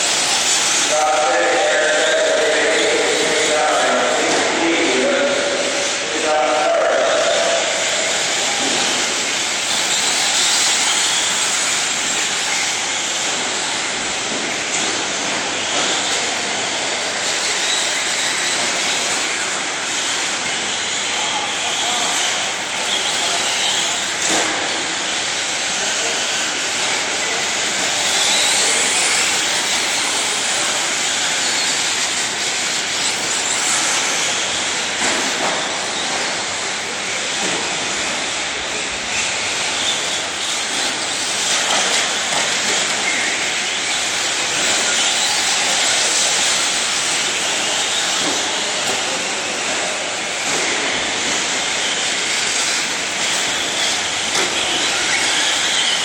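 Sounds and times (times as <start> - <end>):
rc trucks racing on dirt: 0.0 - 56.0.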